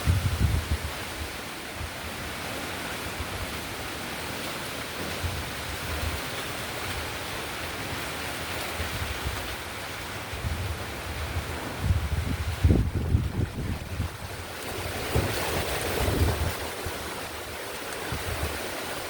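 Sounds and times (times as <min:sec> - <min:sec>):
wind buffeting microphone: 0:00.0 - 0:02.4, 0:05.0 - 0:19.0
steady rain falling: 0:00.0 - 0:19.0.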